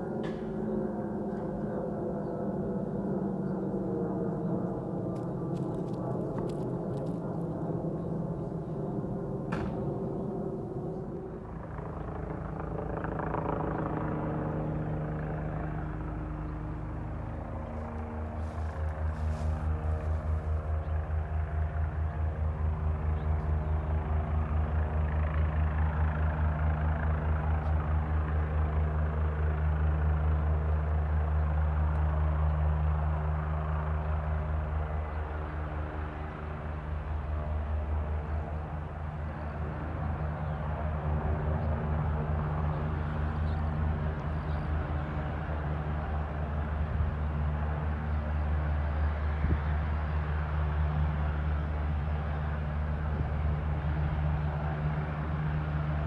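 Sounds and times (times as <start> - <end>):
helicopter engine drone: 0.0 - 56.0
helicopter rotor blades beating: 0.0 - 56.0.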